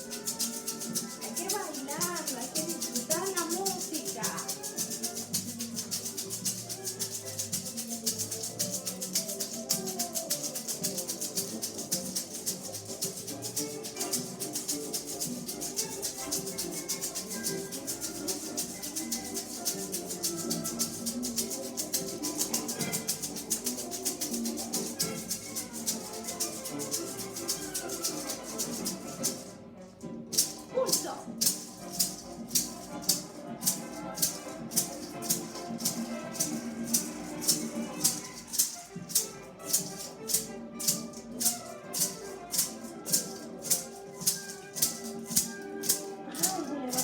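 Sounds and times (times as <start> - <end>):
instrumental music: 0.0 - 47.0
maraca shaking: 0.0 - 47.0.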